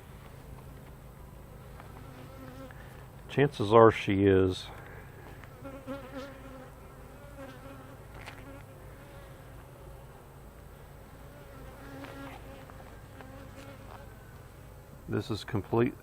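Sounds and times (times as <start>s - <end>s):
honey bees buzzing: 0.0s - 15.8s.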